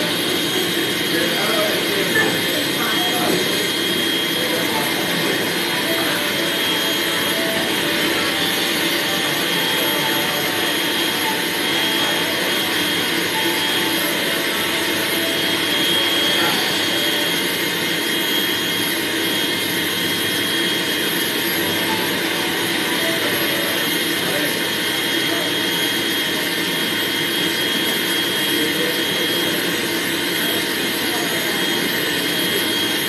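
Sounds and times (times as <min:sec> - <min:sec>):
pet grooming dryer blowing air: 0:00.0 - 0:33.0.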